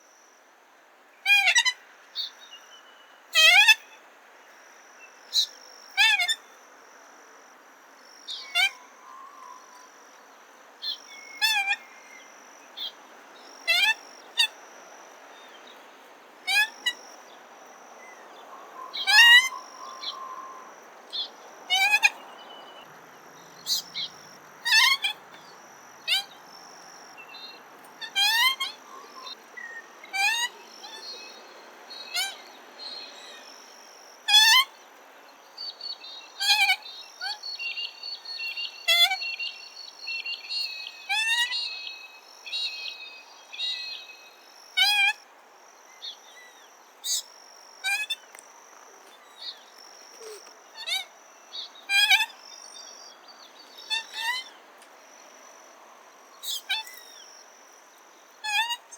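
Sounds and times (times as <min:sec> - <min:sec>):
high insect hum: 0:00.0 - 0:58.9.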